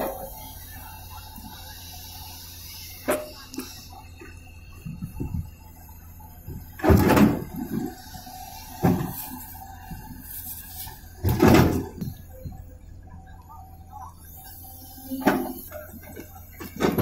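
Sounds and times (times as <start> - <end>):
excavator engine hum: 0.0 - 17.0.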